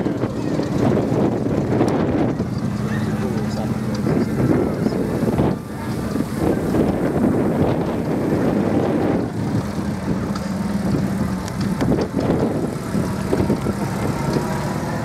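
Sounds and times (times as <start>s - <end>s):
small car engines driving past: 0.0s - 15.0s.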